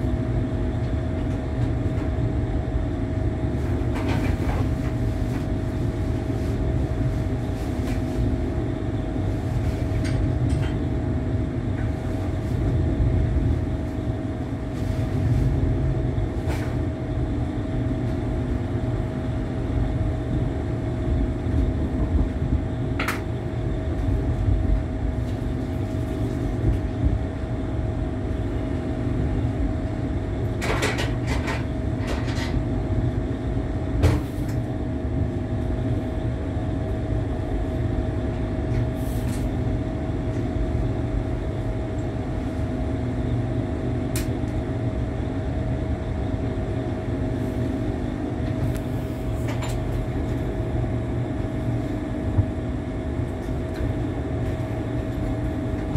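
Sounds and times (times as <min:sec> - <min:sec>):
train carriage rumble: 0:00.0 - 0:55.9.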